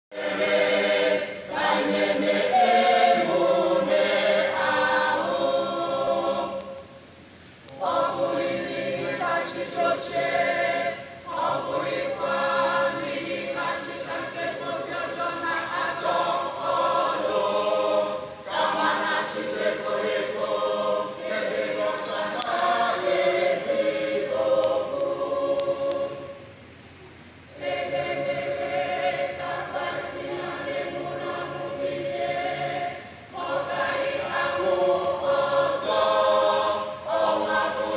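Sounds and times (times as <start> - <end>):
choir singing a cappella: 0.0 - 26.6, 27.4 - 37.9.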